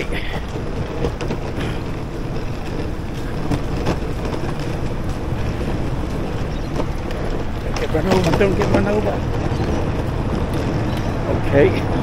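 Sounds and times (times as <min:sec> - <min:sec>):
city traffic rumble: 0:00.0 - 0:12.0
wind buffeting microphone: 0:00.0 - 0:12.0.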